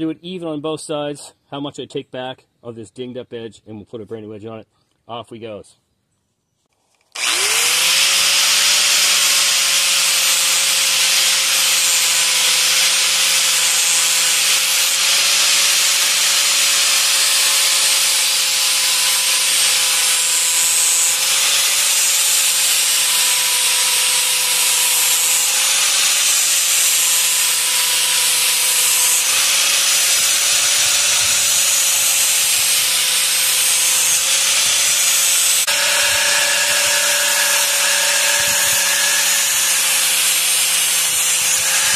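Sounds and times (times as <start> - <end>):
angle grinder grinding steel: 7.1 - 41.9.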